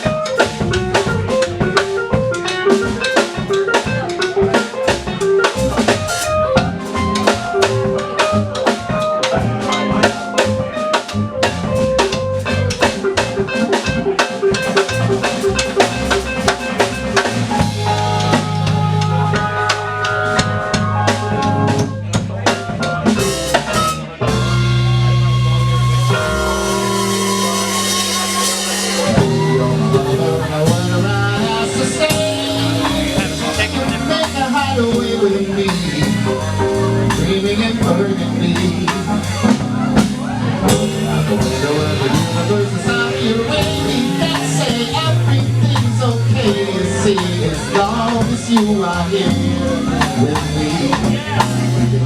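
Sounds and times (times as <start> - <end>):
busy drum kit: 0.0 - 52.0
live funk band: 0.0 - 52.0.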